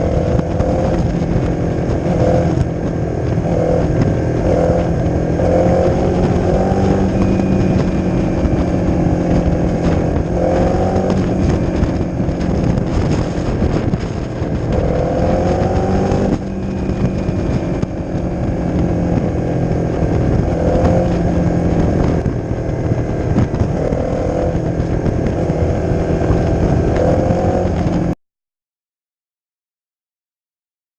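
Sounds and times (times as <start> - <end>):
motorcycle engine revving: 0.0 - 28.2.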